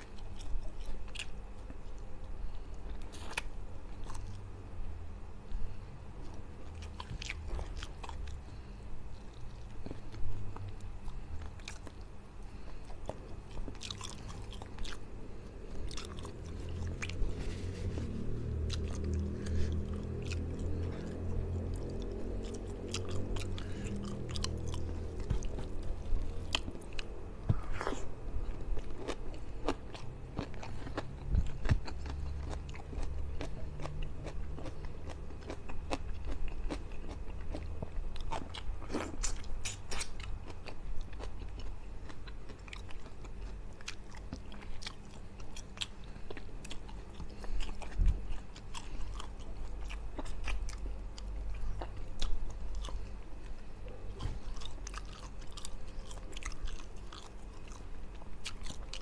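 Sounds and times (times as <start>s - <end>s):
man chewing food: 0.0s - 4.5s, 5.4s - 59.0s.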